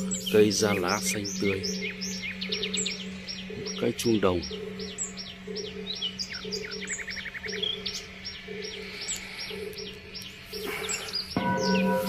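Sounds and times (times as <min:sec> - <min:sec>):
rapid bird trill: 0:00.0 - 0:12.0
small birds chirping: 0:00.0 - 0:12.0
steady low hum: 0:00.0 - 0:12.0.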